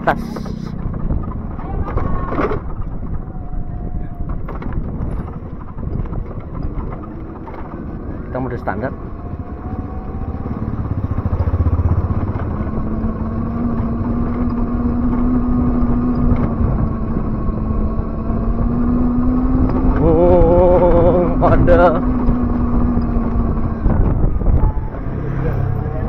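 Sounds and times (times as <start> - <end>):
tyre noise on road: 0.0 - 26.0
wind rumble: 0.0 - 26.0
electric motor whine: 3.2 - 26.0.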